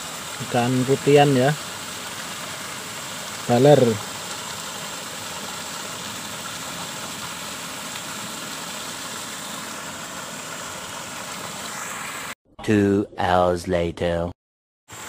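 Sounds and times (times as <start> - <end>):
small waterfall rushing: 0.0 - 12.4.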